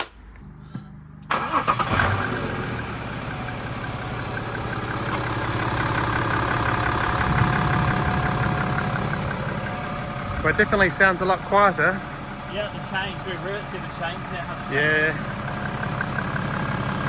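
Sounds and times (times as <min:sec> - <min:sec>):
diesel engine starting and idling: 0:01.0 - 0:17.0.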